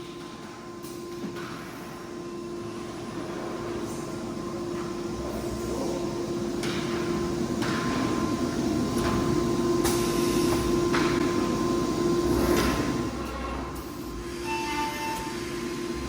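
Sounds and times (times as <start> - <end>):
steady motor hum: 0.0 - 16.0.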